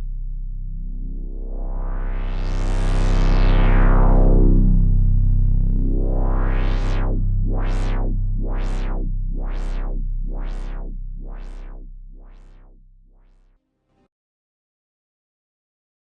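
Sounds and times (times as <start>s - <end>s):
synthesizer chord with filter sweep: 0.1s - 14.0s.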